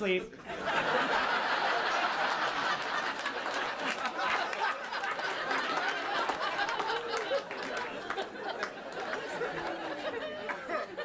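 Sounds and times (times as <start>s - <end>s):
audience laughing: 0.4s - 11.0s.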